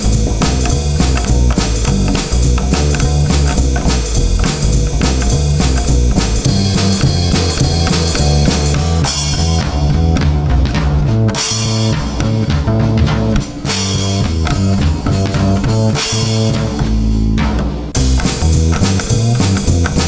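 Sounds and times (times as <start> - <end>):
bass guitar bass line: 0.0 - 20.0
rock backing track: 0.0 - 20.0.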